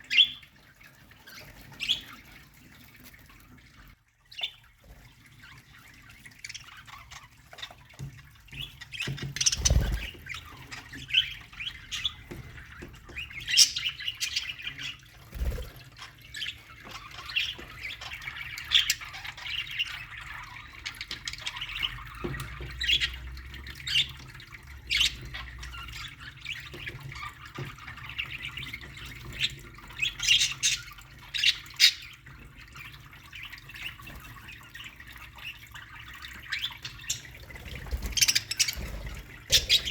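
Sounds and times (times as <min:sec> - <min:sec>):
budgerigars chirping and squawking: 0:00.0 - 0:03.6, 0:04.3 - 0:39.9.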